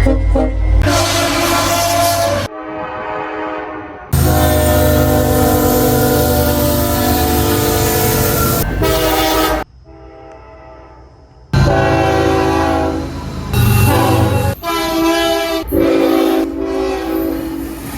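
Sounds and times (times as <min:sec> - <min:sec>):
locomotive air horn chords: 0:00.0 - 0:17.9
low train rumble: 0:00.0 - 0:17.9.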